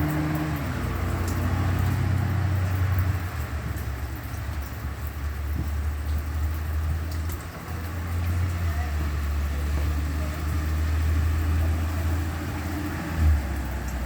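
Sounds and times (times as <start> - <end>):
rain and road noise: 0.0 - 14.0.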